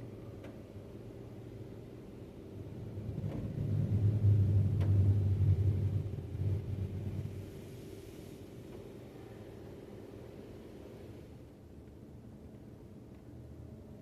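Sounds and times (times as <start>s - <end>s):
car wash machinery rumble: 0.0s - 11.7s
steady background hum: 0.0s - 14.0s.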